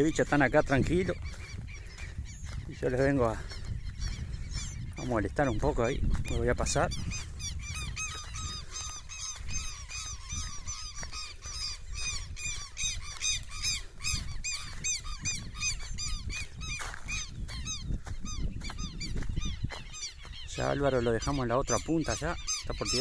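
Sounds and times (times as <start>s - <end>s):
waterbirds calling: 0.0s - 23.0s
wind rumble on microphone: 0.0s - 23.0s.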